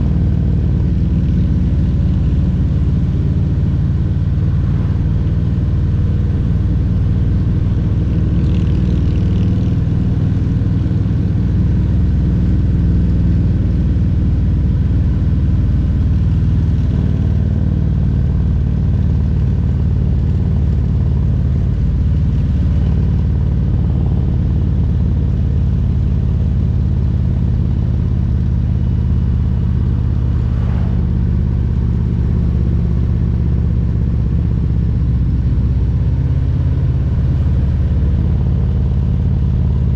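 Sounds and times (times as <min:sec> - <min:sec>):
motorcycle engine rumbling: 0:00.0 - 0:14.4, 0:15.7 - 0:39.9.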